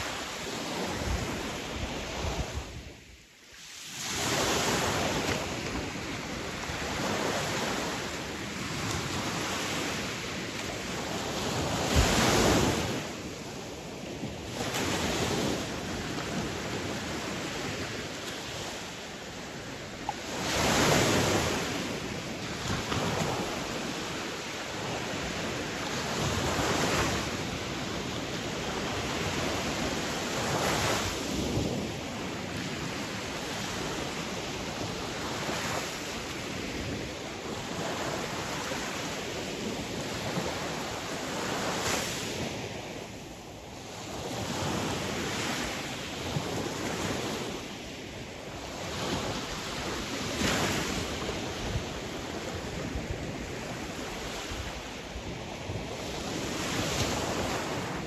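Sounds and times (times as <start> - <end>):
sea waves washing in: 0.0 - 58.0
wind: 0.0 - 58.0.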